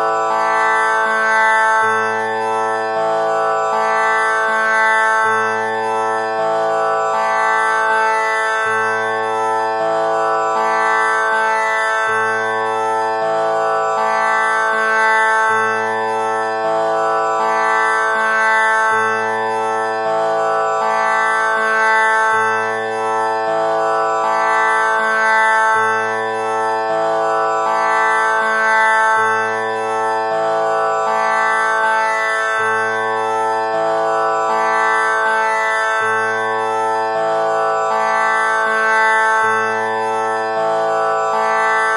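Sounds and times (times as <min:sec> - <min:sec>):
tanpura drone: 0:00.0 - 0:41.9.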